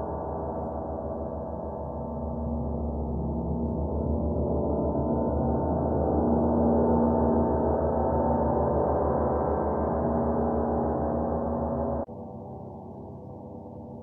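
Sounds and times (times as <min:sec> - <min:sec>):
low pulsing throb: 0:00.0 - 0:12.1.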